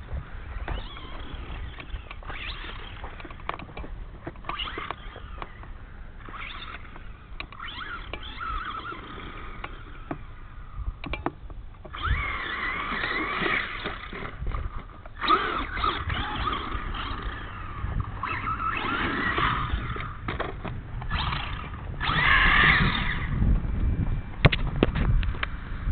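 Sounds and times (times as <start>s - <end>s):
toy truck motor whining: 0.3s - 10.8s, 11.8s - 23.4s.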